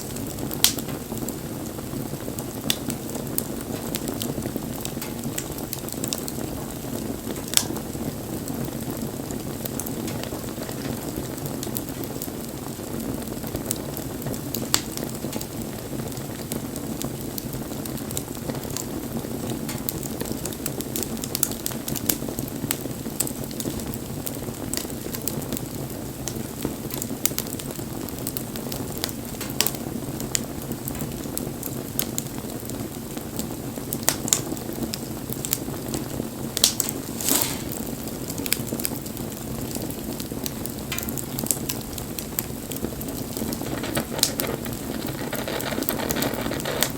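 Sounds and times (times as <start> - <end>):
bonfire flame rushing: 0.0 - 46.9
fire crackling and popping: 0.0 - 46.9.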